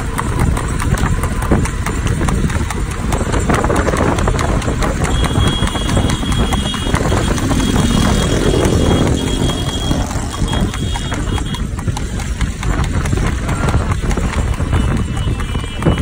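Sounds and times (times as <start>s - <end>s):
horse hooves clattering on asphalt: 0.0s - 16.0s
motorcycle engine running: 0.0s - 16.0s
wind noise: 0.0s - 16.0s.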